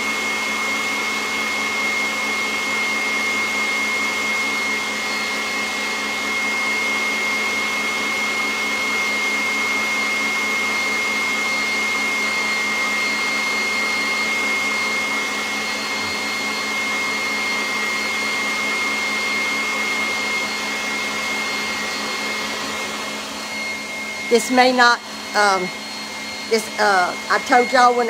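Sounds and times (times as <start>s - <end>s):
stand mixer motor whining: 0.0s - 28.0s.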